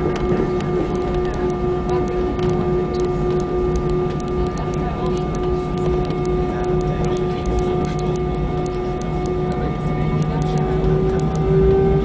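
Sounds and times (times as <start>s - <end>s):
jet engines humming: 0.0s - 12.0s
steady tones: 0.0s - 12.0s.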